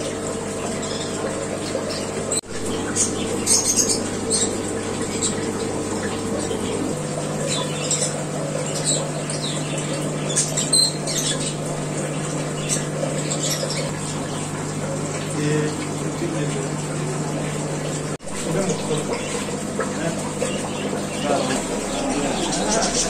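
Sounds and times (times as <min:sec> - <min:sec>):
aeration bubbling: 0:00.0 - 0:23.0
aquarium air pumps humming: 0:00.0 - 0:23.0
caged birds chirping: 0:00.0 - 0:23.0.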